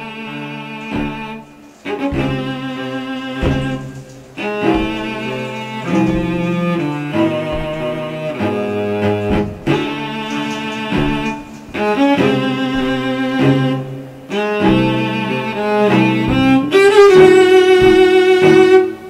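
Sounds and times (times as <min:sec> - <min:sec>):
low bowed strings: 0:00.0 - 0:19.0.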